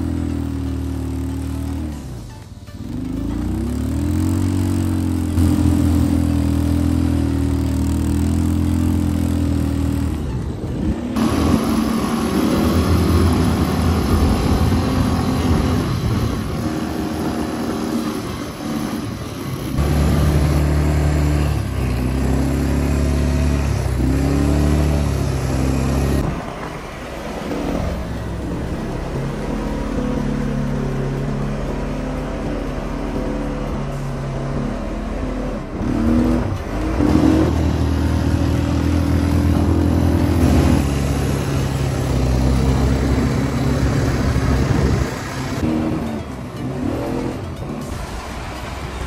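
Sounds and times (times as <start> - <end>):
quad bike engines revving: 0.0 - 49.0.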